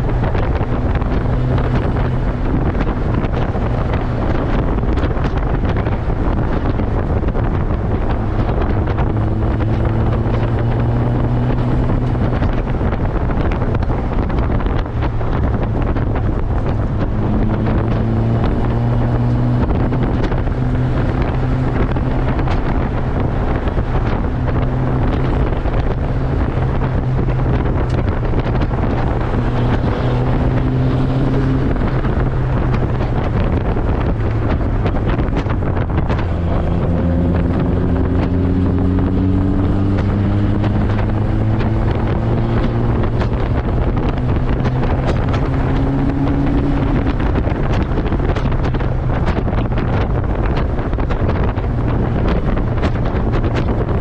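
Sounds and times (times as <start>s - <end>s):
car engine running hard: 0.0s - 54.0s
wind buffeting on microphone: 0.0s - 54.0s.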